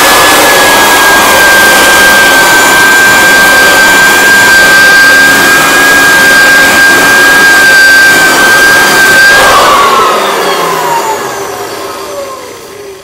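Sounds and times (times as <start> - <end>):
floor edger fans with high whine: 0.0 - 13.0.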